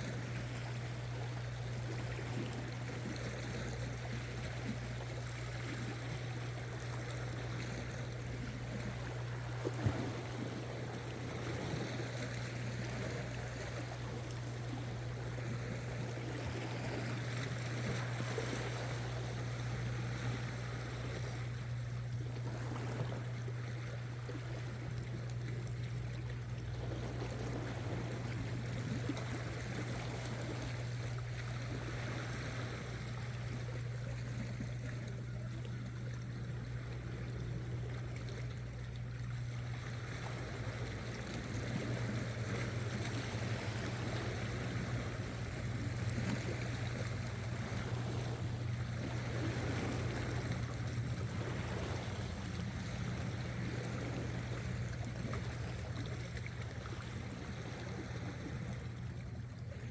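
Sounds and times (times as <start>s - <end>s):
sea water lapping against rocks: 0.0s - 59.9s
steady low hum: 0.0s - 59.9s.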